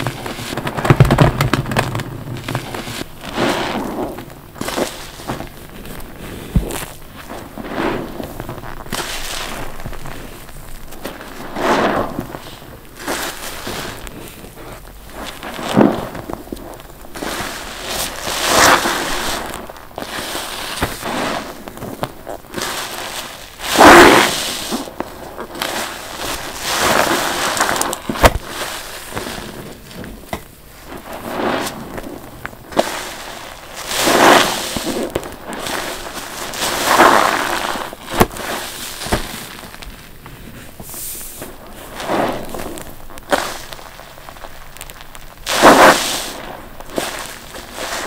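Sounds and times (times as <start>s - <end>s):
foamy sponge squelching: 0.0s - 48.0s.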